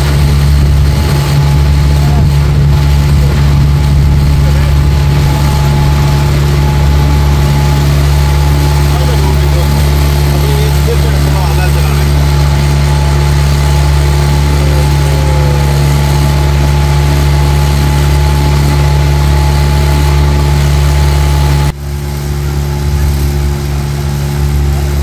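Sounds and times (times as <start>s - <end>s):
motorboat engine humming: 0.0s - 25.0s.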